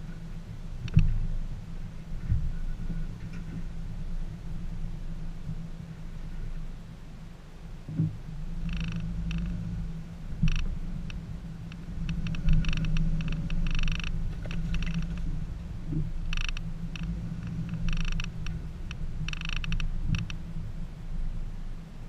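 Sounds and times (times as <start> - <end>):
car engine humming: 0.0 - 22.0.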